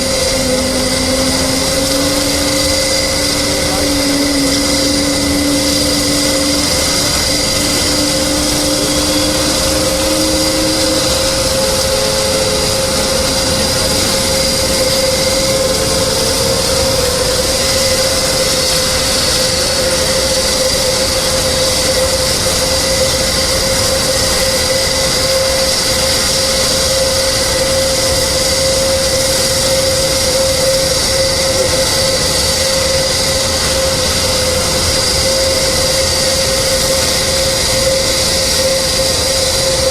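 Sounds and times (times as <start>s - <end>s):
high turbine whine: 0.0s - 39.9s
jet engine roaring: 0.0s - 39.9s.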